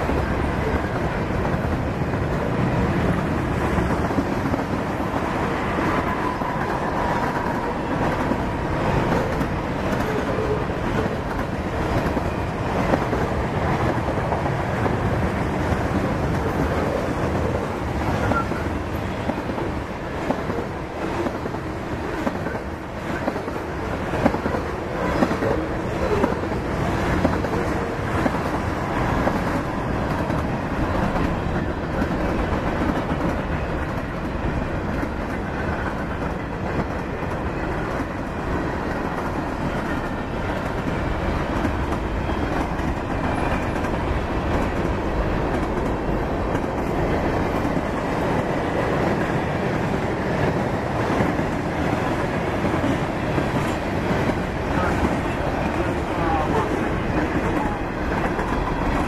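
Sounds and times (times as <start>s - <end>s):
freight cars rumbling: 0.0s - 59.0s.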